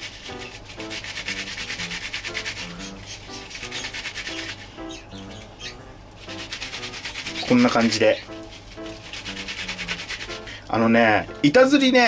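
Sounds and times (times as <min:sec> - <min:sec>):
mesh net rasping on cutting board: 0:00.0 - 0:10.5
light background music: 0:00.0 - 0:12.0.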